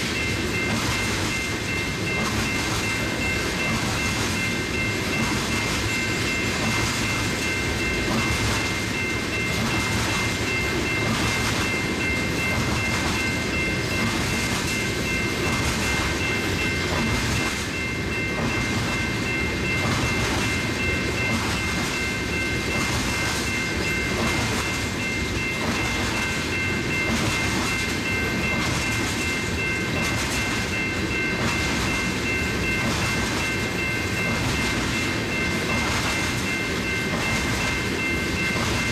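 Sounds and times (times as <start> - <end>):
train rumble: 0.0 - 38.9
train wheels clicking over rail joints: 0.0 - 38.9.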